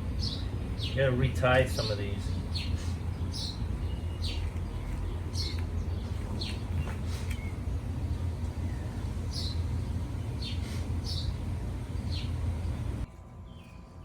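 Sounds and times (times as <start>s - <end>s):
steady low rumble: 0.0s - 13.4s
small birds chirping: 0.0s - 14.0s.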